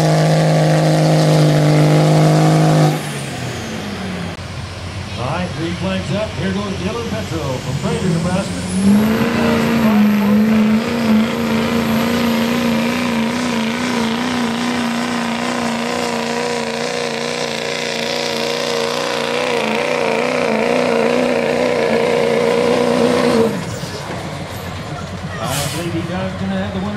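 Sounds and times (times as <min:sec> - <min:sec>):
diesel truck engine at full throttle: 0:00.0 - 0:26.9.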